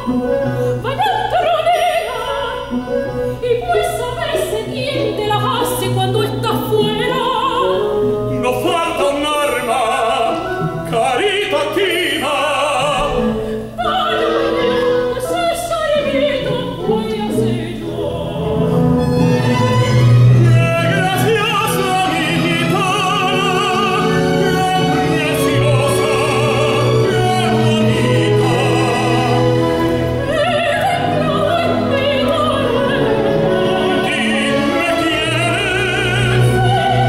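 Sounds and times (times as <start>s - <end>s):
operatic duet singing: 0.0s - 37.0s
symphony orchestra with strings: 0.0s - 37.0s.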